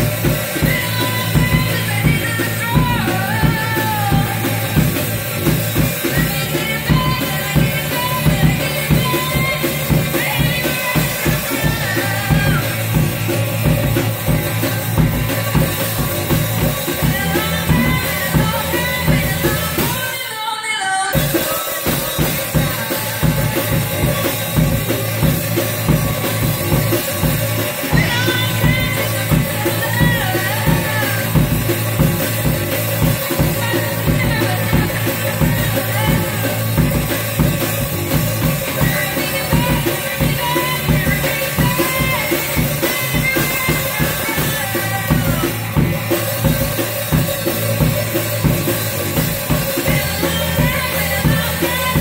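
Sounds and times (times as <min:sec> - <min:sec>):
electric guitar: 0:00.0 - 0:20.1, 0:20.9 - 0:52.0
drum kit beaten steadily: 0:00.0 - 0:52.0
girl singing lead: 0:00.0 - 0:52.0.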